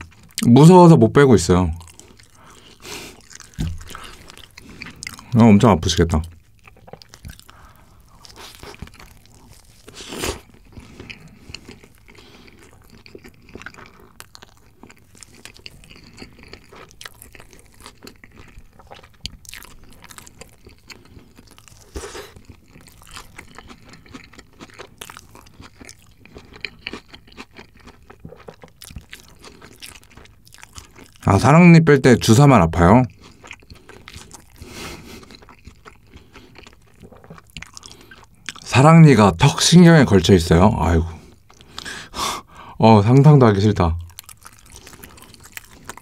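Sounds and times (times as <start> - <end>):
wet crunching chewing: 0.0 - 0.6, 1.5 - 31.6, 32.2 - 38.8, 40.1 - 42.6, 44.0 - 46.0.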